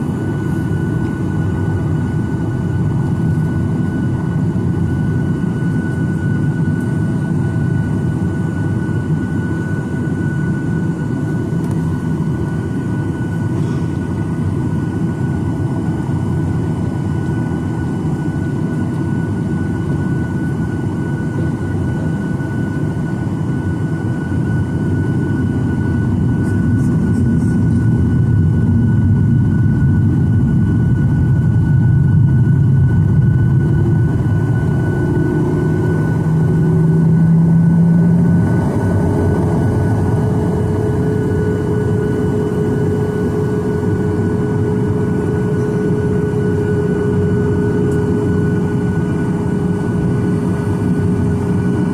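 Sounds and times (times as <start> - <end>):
jet engine cabin rumble: 0.0 - 51.9
jet engine high whine: 0.0 - 51.9.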